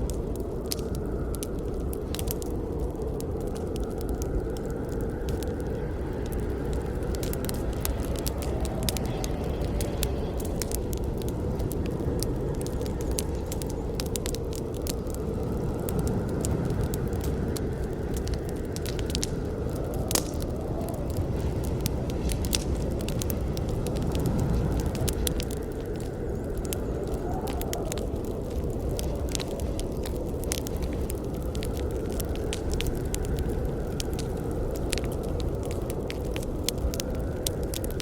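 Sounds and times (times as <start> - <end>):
burning wood crackling and popping: 0.0 - 38.0
campfire flame rushing: 0.0 - 38.0.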